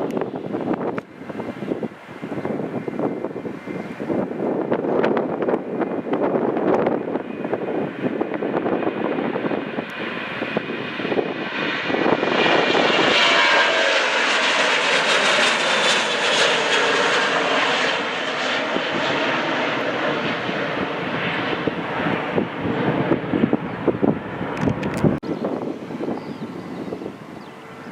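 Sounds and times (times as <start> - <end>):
jet engines passing with turbine whine: 0.0 - 27.9
wind buffeting microphone: 0.0 - 27.9.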